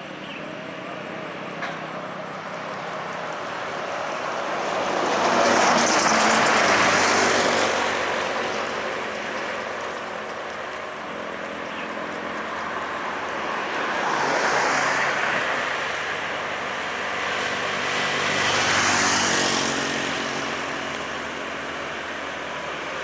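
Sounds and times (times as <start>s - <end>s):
diesel trucks passing: 0.0s - 23.0s
tyre and road noise: 0.0s - 23.0s.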